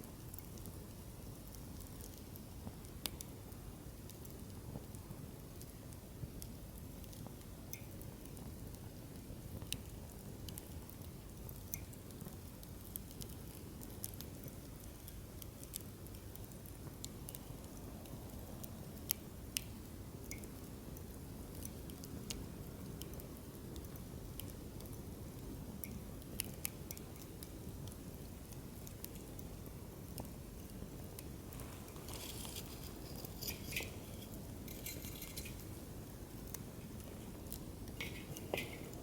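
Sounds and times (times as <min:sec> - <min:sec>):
firewood crackling and popping: 0:00.0 - 0:39.0
low rumble of flames: 0:00.0 - 0:39.0.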